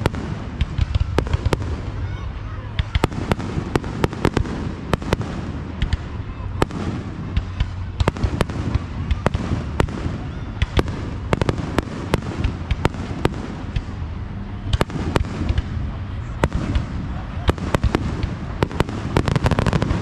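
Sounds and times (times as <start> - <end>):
fireworks bursting: 0.0 - 20.0
low background rumble: 0.0 - 20.0.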